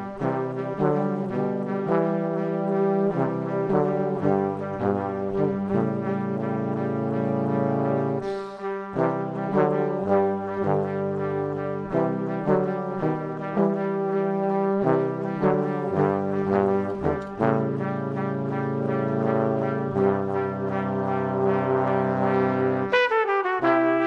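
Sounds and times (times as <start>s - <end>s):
brass instruments playing: 0.0s - 24.0s.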